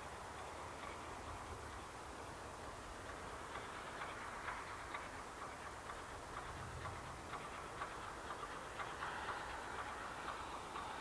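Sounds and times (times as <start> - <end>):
distant steam train ticking: 0.0 - 11.0.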